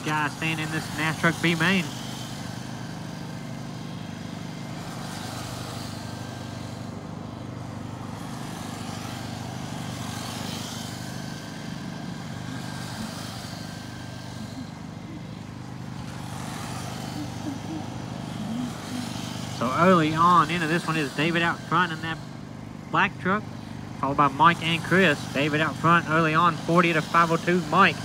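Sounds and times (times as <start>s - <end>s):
radio-controlled trucks racing: 0.0s - 28.0s
steady low hum: 0.0s - 28.0s.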